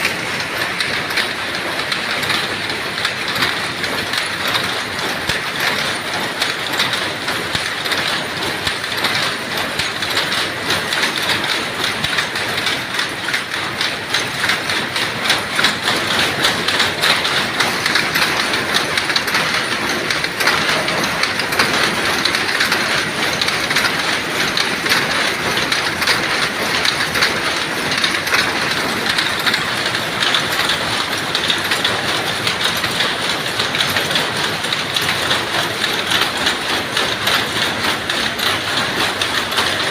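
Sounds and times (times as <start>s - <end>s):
power loom clattering: 0.0s - 39.9s.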